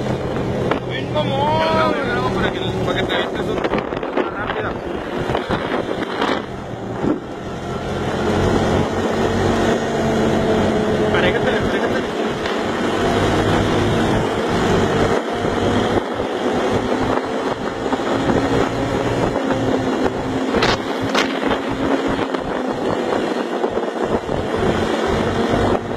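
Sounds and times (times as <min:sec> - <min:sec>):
atv engine running: 0:00.0 - 0:25.9
road and wind noise: 0:00.0 - 0:25.9.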